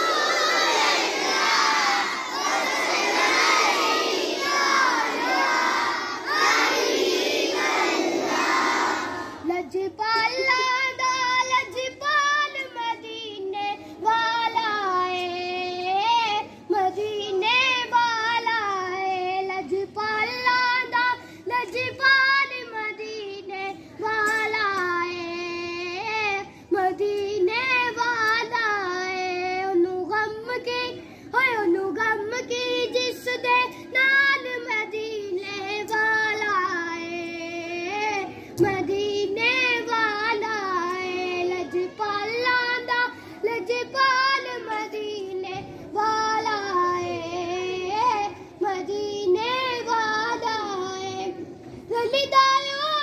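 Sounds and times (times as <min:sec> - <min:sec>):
child singing unaccompanied: 0:00.0 - 0:53.0
children's voices: 0:00.0 - 0:53.0.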